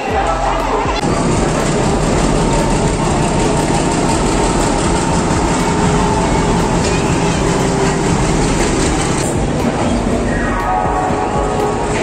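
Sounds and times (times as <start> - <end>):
diesel locomotive engine rumble: 0.2 - 12.0.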